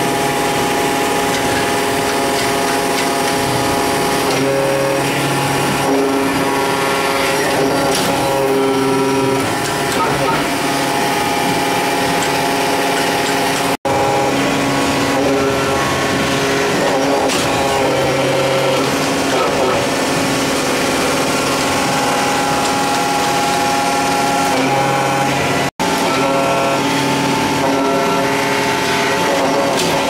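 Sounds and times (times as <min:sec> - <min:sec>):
press machine droning: 0:00.0 - 0:30.0.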